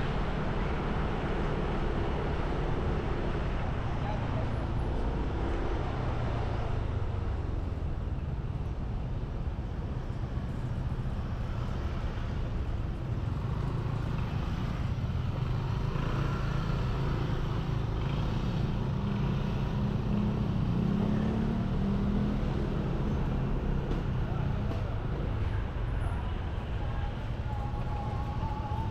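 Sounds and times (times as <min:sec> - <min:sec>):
wind and road noise: 0:00.0 - 0:28.9.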